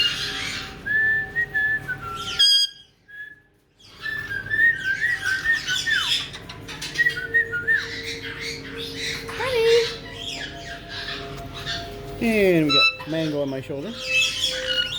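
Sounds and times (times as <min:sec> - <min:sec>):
parrots squawking: 0:00.0 - 0:00.9, 0:02.2 - 0:02.9, 0:03.8 - 0:14.9
parrots whistling: 0:00.0 - 0:14.9.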